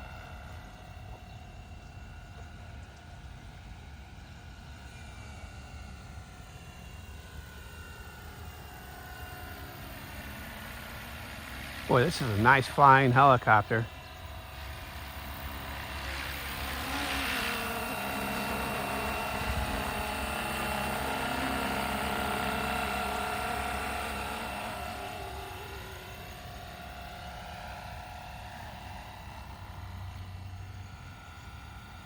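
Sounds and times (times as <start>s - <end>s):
low hum: 0.0s - 32.0s
rc helicopter rotor whine: 0.0s - 32.0s.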